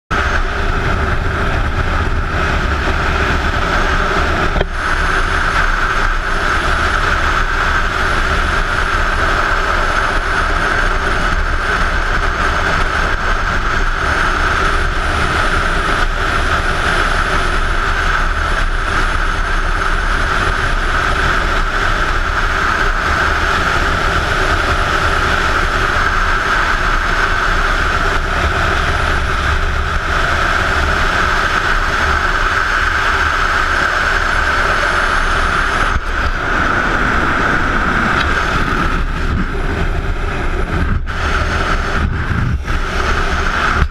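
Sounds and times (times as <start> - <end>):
motorcycle engine drone: 0.0 - 43.9
wind rush on helmet: 0.1 - 43.9.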